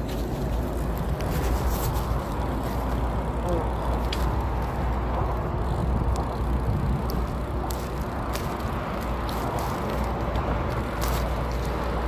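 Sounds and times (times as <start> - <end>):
bicycle clicks and rattles: 0.0 - 12.0
road noise: 0.0 - 12.0
wind rumbling on microphone: 0.0 - 12.0.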